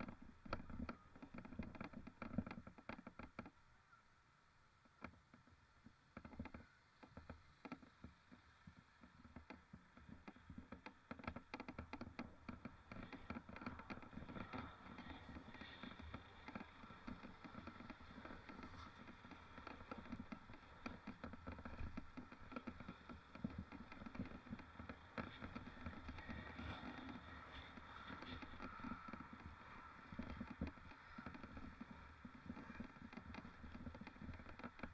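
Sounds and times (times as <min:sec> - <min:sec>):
mountain bike rattling and clicking: 0:00.0 - 0:03.6, 0:06.1 - 0:34.9
low rumble of tyres: 0:04.6 - 0:34.9.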